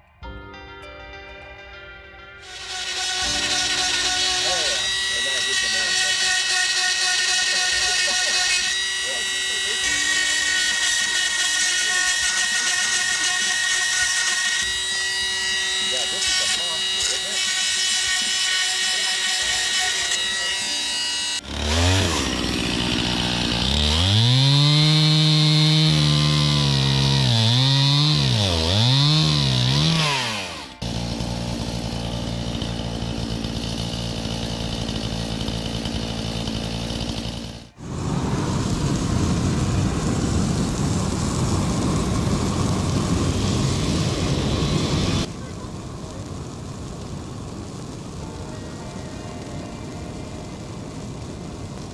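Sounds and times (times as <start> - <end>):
chainsaw cutting log: 2.4 - 45.4.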